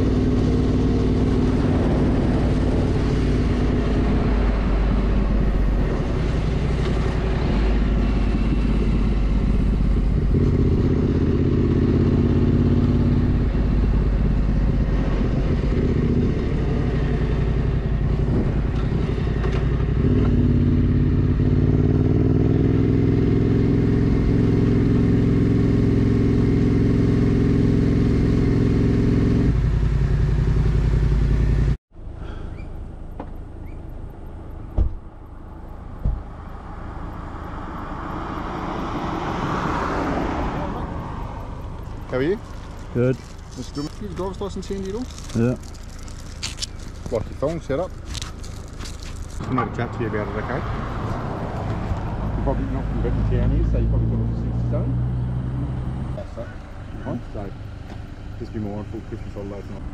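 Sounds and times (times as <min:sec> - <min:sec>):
motorcycle engine running: 0:00.0 - 0:31.8, 0:40.6 - 0:59.9.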